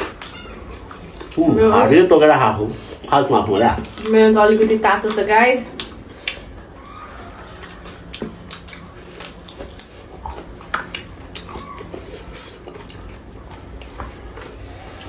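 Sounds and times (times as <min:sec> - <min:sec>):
chewing and crunching bones: 0:00.0 - 0:15.0.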